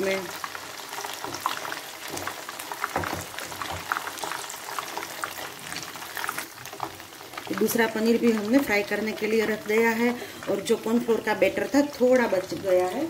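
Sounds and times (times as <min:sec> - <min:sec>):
deep-frying sizzle with pops: 0:00.0 - 0:13.0.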